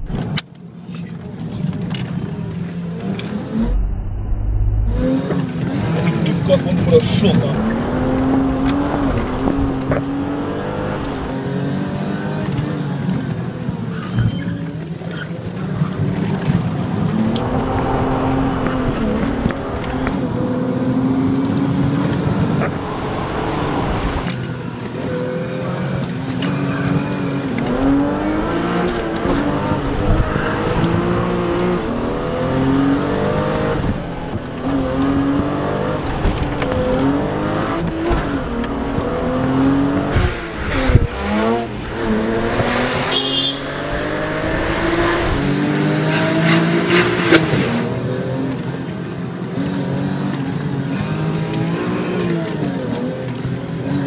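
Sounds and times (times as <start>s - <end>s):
car engine accelerating: 2.3s - 13.6s, 15.5s - 48.7s.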